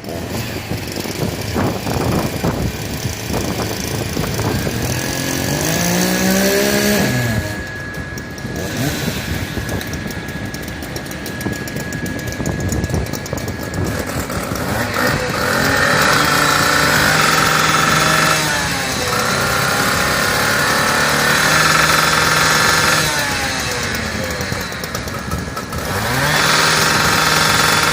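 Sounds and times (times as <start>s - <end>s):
truck engine rumble: 0.0s - 27.9s
fire engine siren wailing: 1.8s - 27.9s.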